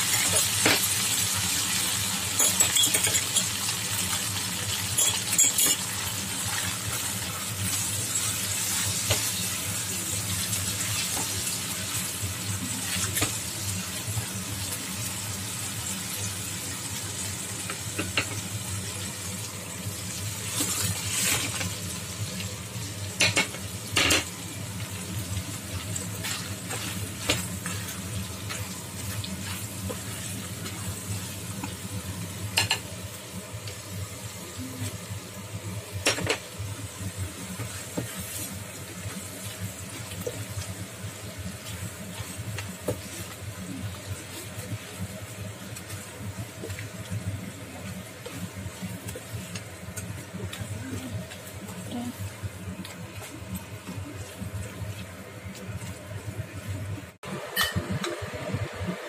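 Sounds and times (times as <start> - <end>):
sauce sizzling and bubbling: 0.0 - 59.0.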